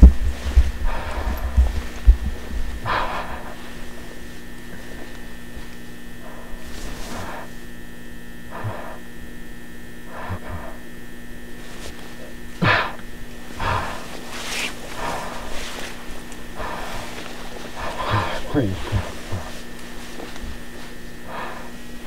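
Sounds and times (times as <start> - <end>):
fluorescent lights humming: 0.0 - 22.0.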